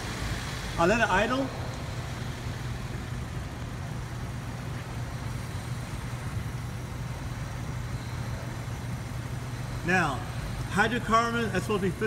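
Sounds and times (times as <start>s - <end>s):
car engine idling and misfiring: 0.0s - 12.0s.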